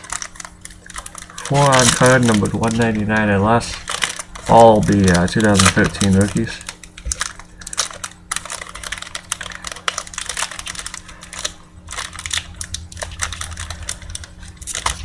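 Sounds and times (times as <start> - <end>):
wrapper crinkling: 0.0 - 15.0.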